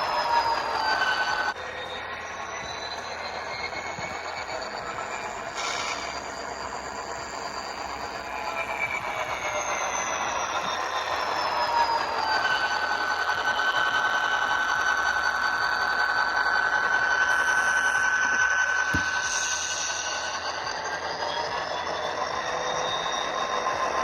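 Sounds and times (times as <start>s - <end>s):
model locomotive diesel engine sound: 0.0s - 24.0s
wheel and motor noise: 0.0s - 24.0s
whining tones: 0.0s - 24.0s.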